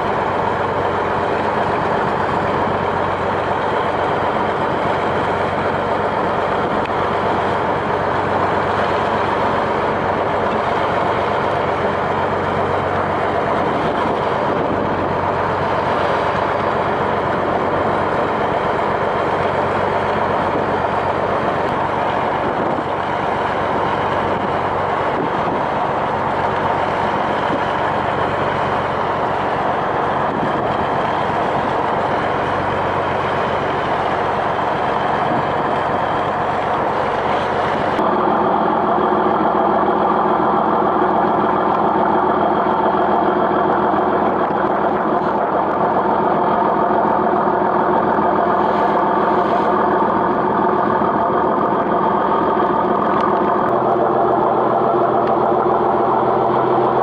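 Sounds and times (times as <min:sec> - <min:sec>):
boat engine running: 0:00.0 - 0:57.0
wind and water rushing: 0:00.0 - 0:57.0.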